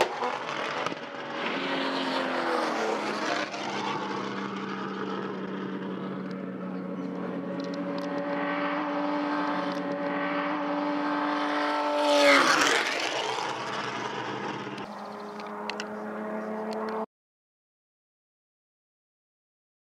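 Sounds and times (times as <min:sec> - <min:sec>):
race car passing by: 0:00.0 - 0:17.1.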